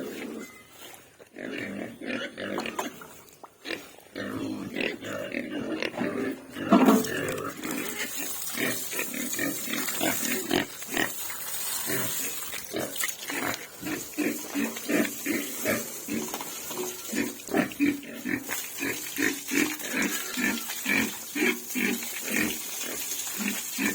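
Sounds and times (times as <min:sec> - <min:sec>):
pigs grunting: 0:01.3 - 0:23.9.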